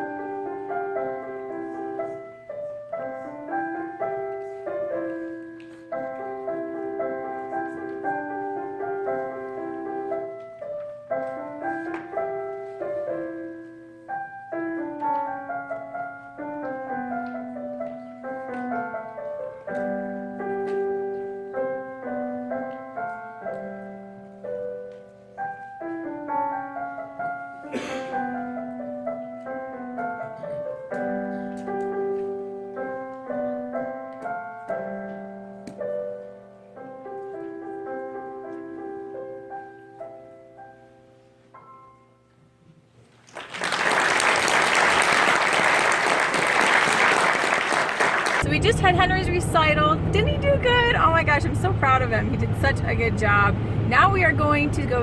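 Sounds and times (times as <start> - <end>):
piano playing: 0.0 - 42.6, 43.7 - 55.0.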